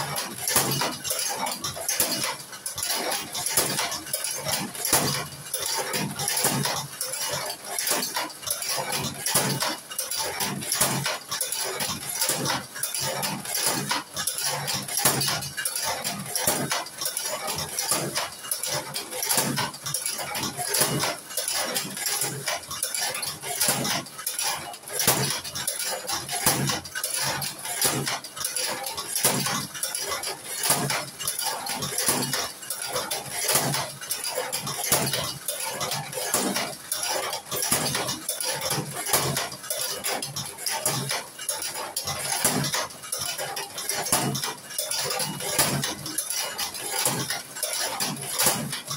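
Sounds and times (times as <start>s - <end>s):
machine rapid metallic clicks: 0.0s - 48.9s.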